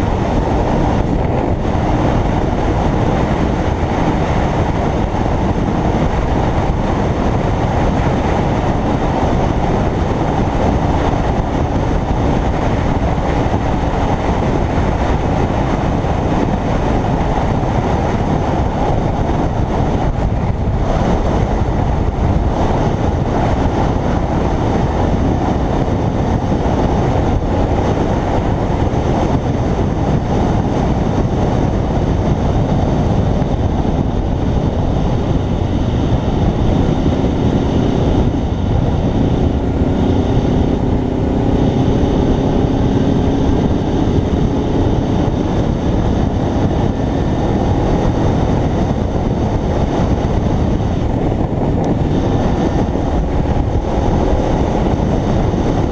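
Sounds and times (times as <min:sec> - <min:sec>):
motorcycle engine: 0:00.0 - 0:55.9
wind and road noise: 0:00.0 - 0:55.9.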